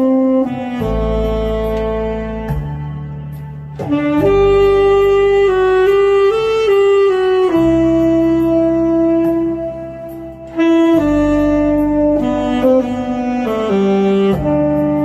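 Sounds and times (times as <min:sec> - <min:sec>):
backing track: 0:00.0 - 0:15.0
saxophone playing slow melody: 0:00.0 - 0:15.0.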